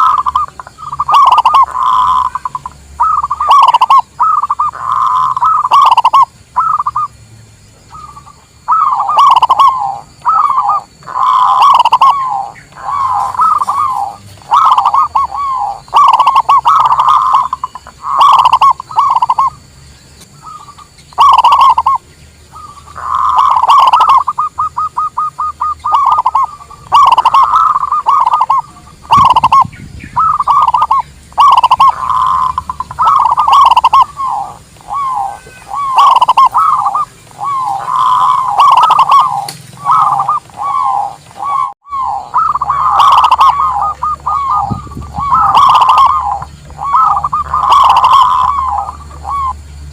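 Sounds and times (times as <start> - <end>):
doves cooing: 0.0 - 7.2, 7.8 - 49.9.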